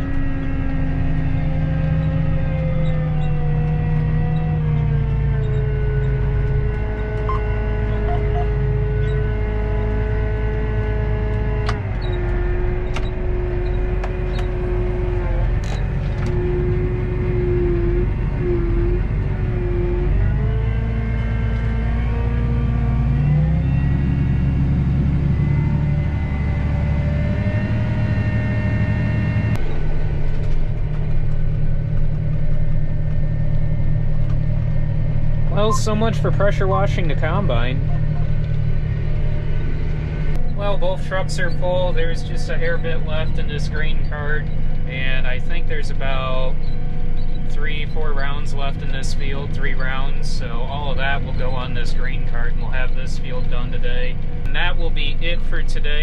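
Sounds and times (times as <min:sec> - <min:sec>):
sustained tones changing pitch: 0:00.0 - 0:30.1, 0:31.4 - 0:55.7
engine rumble: 0:00.0 - 0:56.0.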